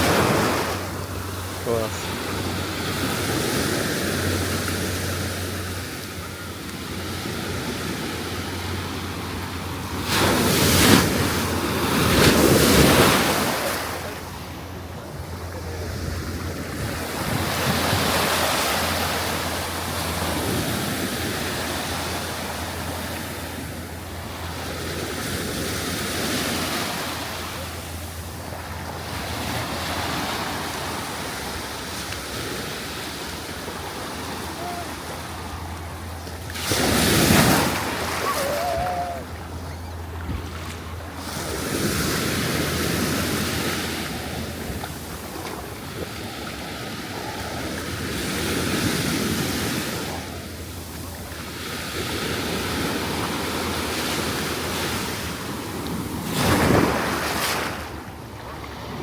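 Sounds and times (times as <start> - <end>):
surf washing onto beach: 0.0 - 59.0.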